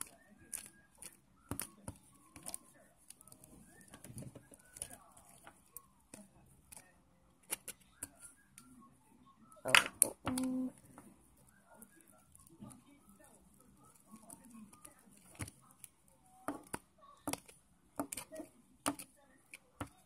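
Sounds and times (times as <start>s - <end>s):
stick stirring slime: 0.0s - 8.7s, 9.6s - 20.0s.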